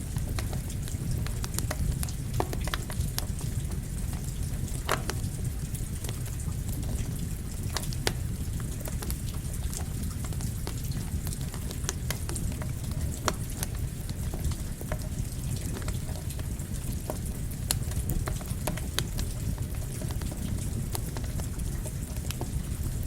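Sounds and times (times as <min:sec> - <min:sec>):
campfire crackling: 0:00.0 - 0:23.0
rain falling: 0:00.0 - 0:23.0.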